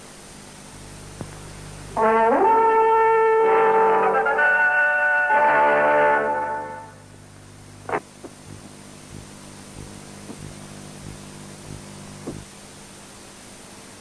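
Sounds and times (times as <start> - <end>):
low mains hum: 0.0 - 14.0
recording hiss: 0.0 - 14.0.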